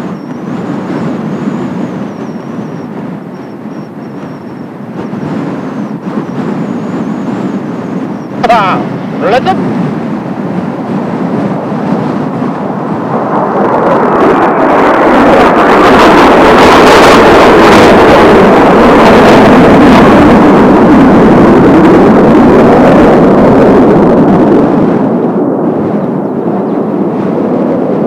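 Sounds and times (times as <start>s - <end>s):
jet engines flying past: 0.0s - 28.0s.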